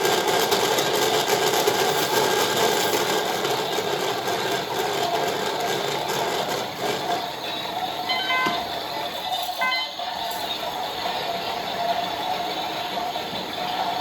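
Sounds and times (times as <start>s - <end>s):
washing machines whirring: 0.0s - 14.0s.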